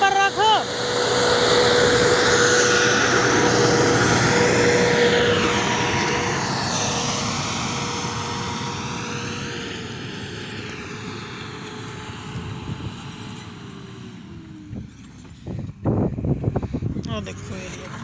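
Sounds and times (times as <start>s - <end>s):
diesel engine passing by: 0.0s - 18.0s
steady mechanical whine: 0.0s - 18.0s.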